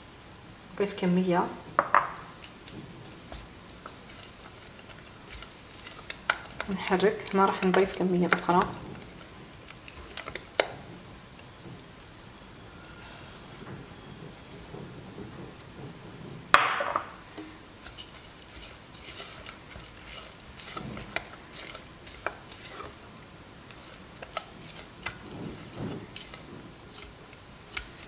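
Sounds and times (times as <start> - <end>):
spatula scraping a saucepan: 2.4 - 10.6, 12.3 - 16.4, 17.3 - 28.0.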